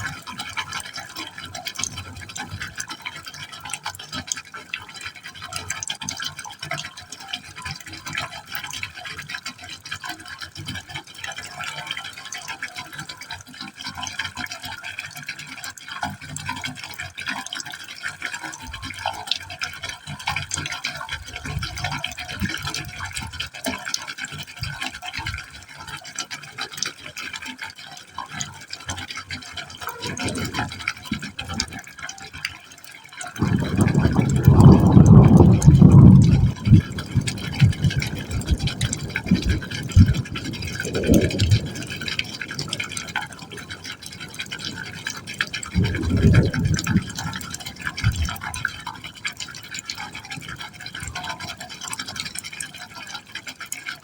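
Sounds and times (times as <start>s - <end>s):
water trickling into a pipe: 0.0s - 54.0s.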